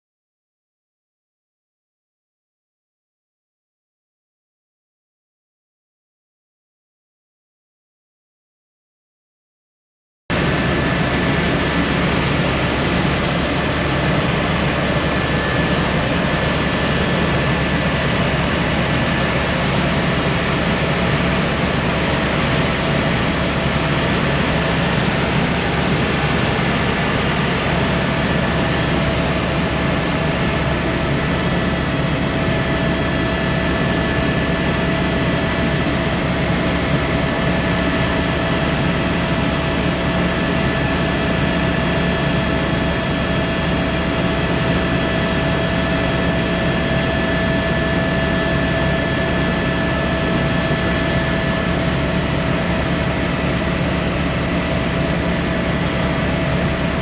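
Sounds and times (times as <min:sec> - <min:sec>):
helicopter hum and whine: 0:10.3 - 0:57.0.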